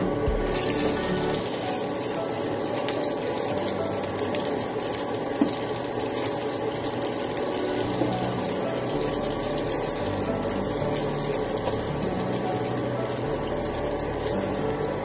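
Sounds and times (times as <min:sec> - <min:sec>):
water bubbling in a pan: 0:00.4 - 0:15.0.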